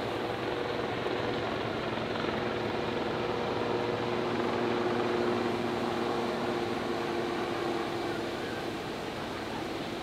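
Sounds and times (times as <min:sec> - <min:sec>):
helicopter flying overhead: 0:00.0 - 0:10.0.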